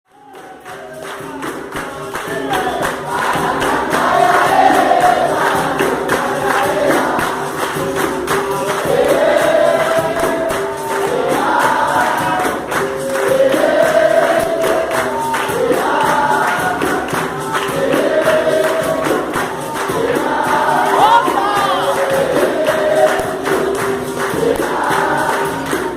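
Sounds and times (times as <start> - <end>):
group singing a chorus: 0.1 - 25.9
pandeiro and berimbau percussion: 0.1 - 25.9.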